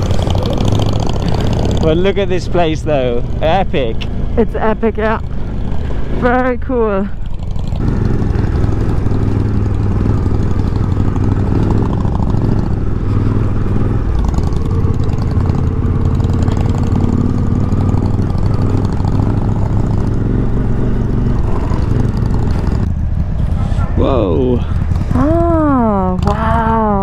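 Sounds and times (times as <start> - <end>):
motorcycle engine running under load: 0.0 - 27.0.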